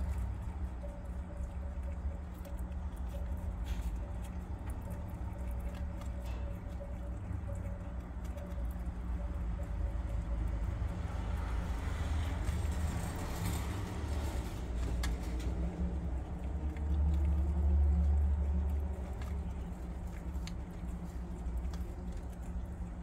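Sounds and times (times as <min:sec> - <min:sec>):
animal chewing with crunchy clicks: 0:00.0 - 0:23.0
steady low rumble: 0:00.0 - 0:23.0.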